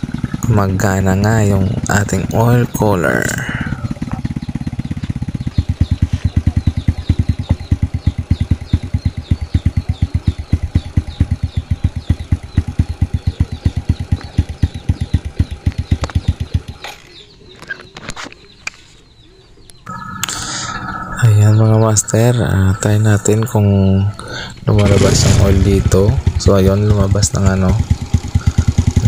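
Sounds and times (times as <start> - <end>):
motorcycle engine idling: 0.0 - 17.6, 20.0 - 29.0.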